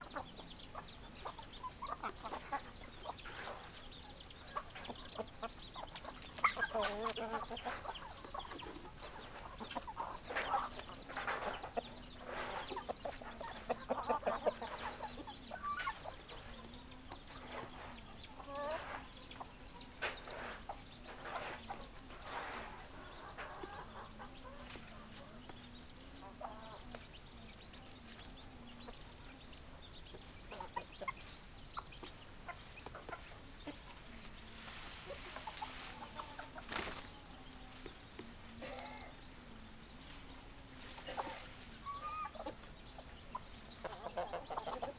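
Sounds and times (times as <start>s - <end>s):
hens clucking: 0.0s - 44.9s.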